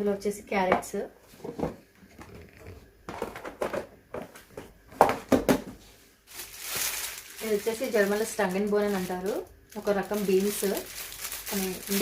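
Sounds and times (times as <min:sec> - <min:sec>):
vegetables knocking and rustling: 0:01.4 - 0:12.0.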